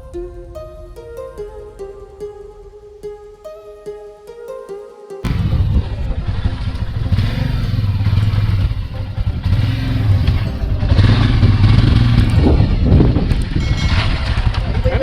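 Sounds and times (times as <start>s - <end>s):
motorcycle engine rumbling: 0.0s - 3.6s, 5.3s - 15.0s.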